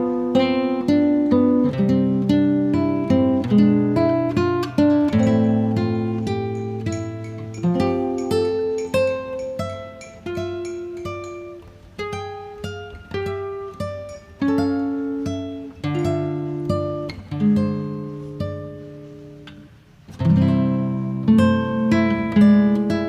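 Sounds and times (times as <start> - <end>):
acoustic guitar plucking: 0.0 - 23.0.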